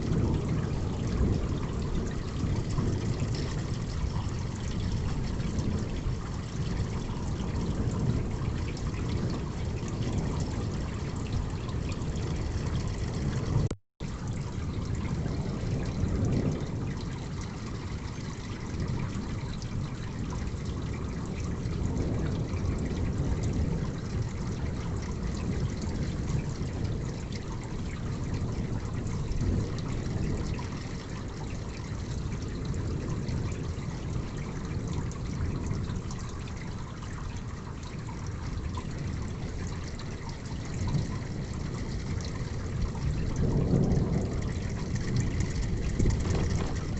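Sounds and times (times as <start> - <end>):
heavy rain: 0.0 - 46.9
water trickling and dripping: 0.0 - 46.9.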